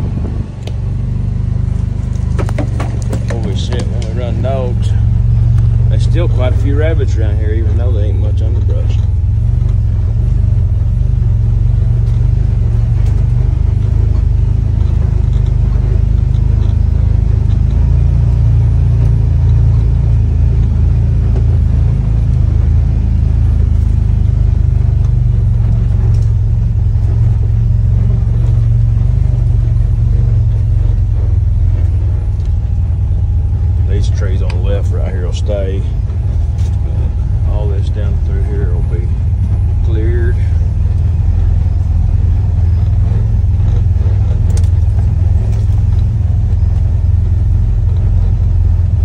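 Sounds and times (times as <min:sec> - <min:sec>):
vehicle engine low rumble: 0:00.0 - 0:49.0.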